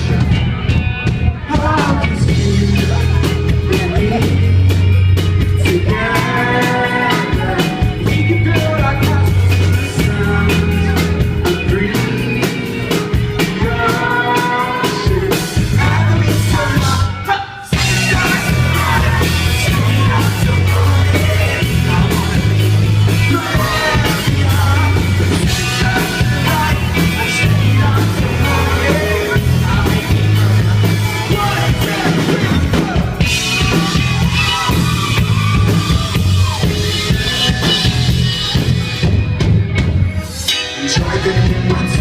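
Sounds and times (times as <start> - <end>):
vocals: 0.0 - 39.4, 40.1 - 42.0
bass guitar: 0.0 - 42.0
drums: 0.0 - 42.0
electric guitars: 0.0 - 42.0.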